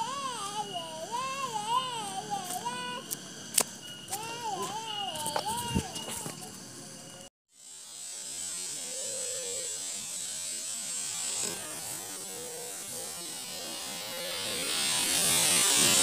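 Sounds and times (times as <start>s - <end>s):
rocket motor hissing: 0.0s - 16.0s.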